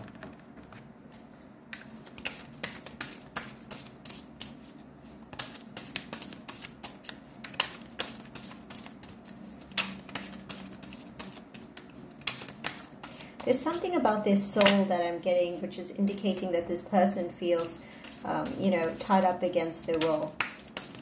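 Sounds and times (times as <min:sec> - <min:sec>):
cards being shuffled: 0:00.0 - 0:14.9, 0:17.6 - 0:21.0.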